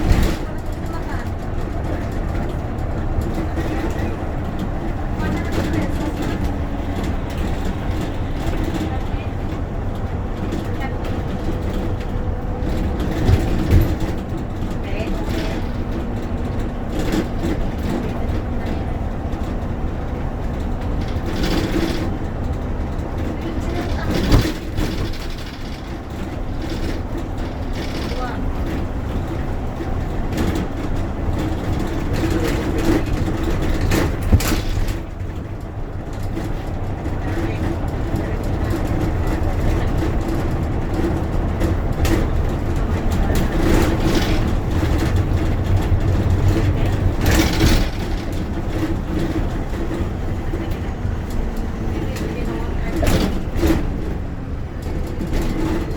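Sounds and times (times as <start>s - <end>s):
bus body rattling: 0.0s - 55.9s
bus engine and road rumble: 0.0s - 55.9s.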